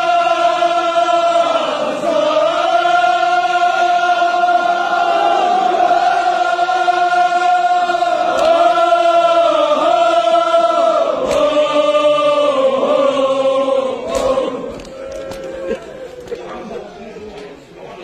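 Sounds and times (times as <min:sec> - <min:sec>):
men chanting in unison: 0:00.0 - 0:16.1.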